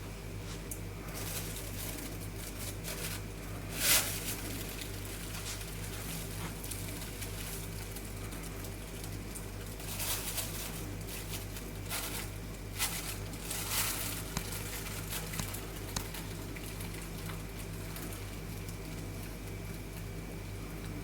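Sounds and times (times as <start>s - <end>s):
dough rustling and crinkling: 0.0s - 21.0s
steady electrical hum: 0.0s - 21.0s.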